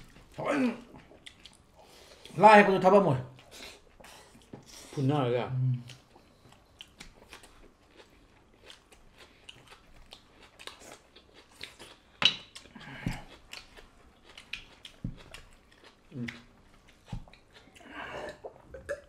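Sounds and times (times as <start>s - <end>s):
people chewing food: 0.0s - 2.4s, 3.3s - 19.0s.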